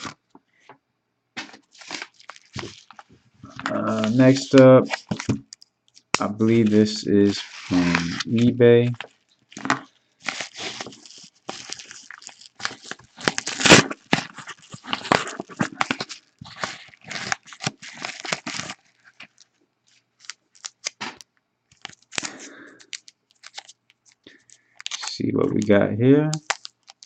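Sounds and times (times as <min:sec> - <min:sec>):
package wrapping ripping: 0:01.4 - 0:19.6, 0:20.2 - 0:25.1, 0:26.3 - 0:27.0.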